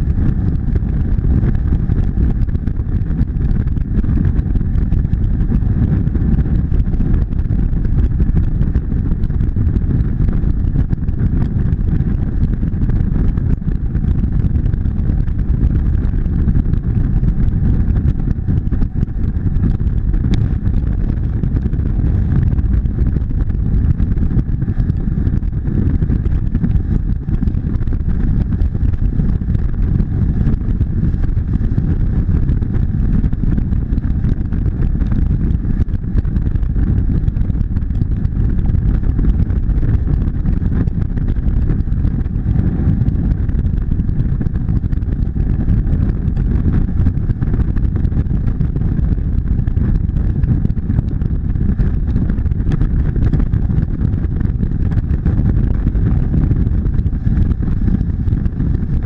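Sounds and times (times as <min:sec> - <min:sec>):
motorcycle engine hum: 0:00.0 - 0:59.0
wind rumble on microphone: 0:00.0 - 0:59.0.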